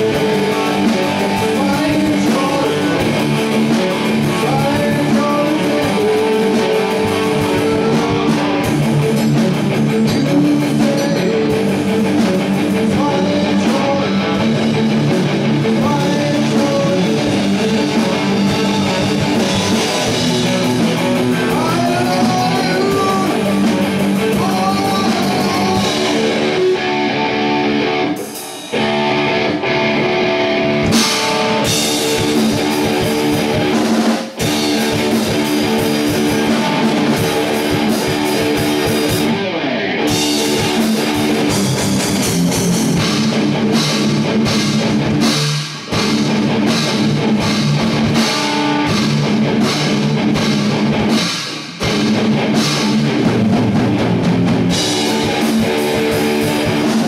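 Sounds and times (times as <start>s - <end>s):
drum kit: 0.0s - 57.0s
electric guitars through amplifiers: 0.0s - 57.0s.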